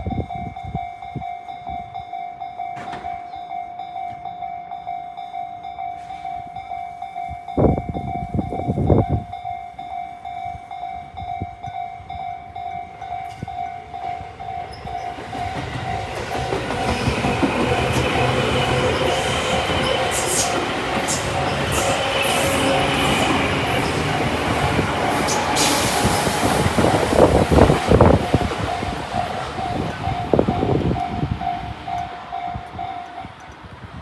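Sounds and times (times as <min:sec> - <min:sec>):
level crossing warning bell: 0:00.0 - 0:34.0
train rumble and rail clatter: 0:00.0 - 0:34.0.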